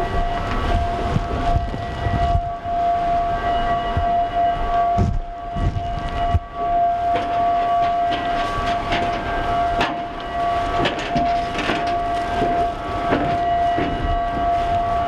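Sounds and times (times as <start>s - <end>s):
steady tone with overtones: 0.0s - 15.0s.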